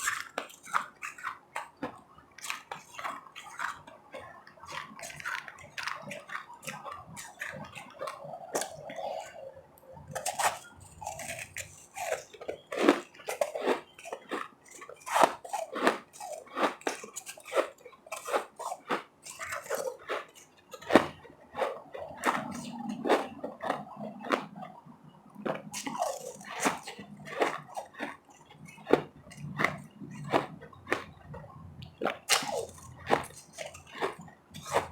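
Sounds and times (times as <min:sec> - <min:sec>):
ice crunching and chewing: 0:00.0 - 0:34.9.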